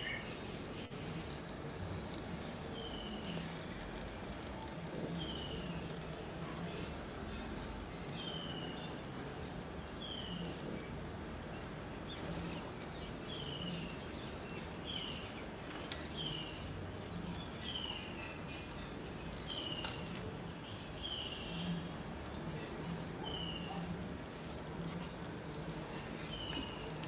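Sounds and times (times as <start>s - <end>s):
higher bird chirps: 0.0s - 27.0s
outdoor background hiss: 0.0s - 27.0s.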